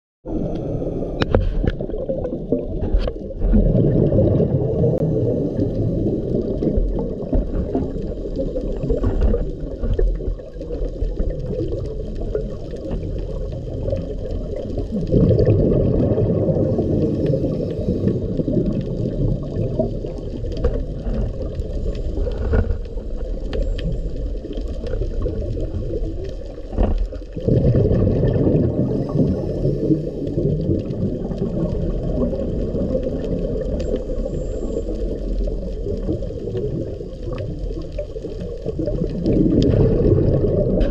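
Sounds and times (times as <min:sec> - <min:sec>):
underwater rumble and gurgling: 0:00.2 - 0:40.9.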